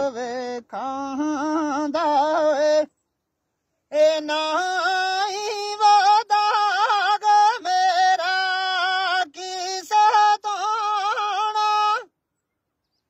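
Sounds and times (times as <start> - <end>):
person singing unaccompanied folk song: 0.0 - 12.2.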